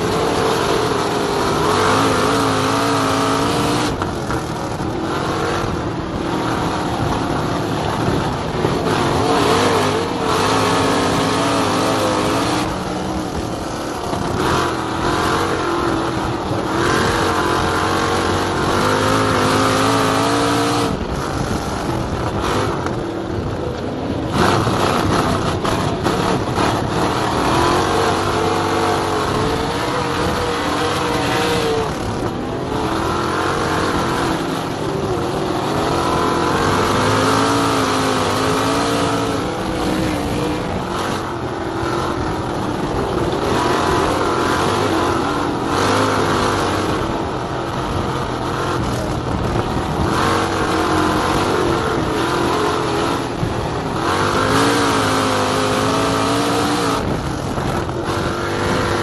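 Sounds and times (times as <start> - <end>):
race car engine: 0.0 - 59.0.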